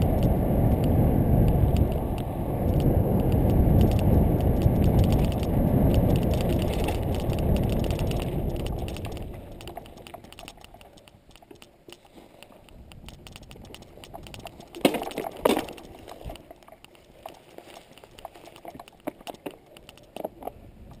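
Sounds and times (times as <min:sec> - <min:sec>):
bicycle rolling on grass: 0:00.0 - 0:11.7, 0:12.8 - 0:20.4
light rapid ticking and rattling: 0:00.0 - 0:21.0.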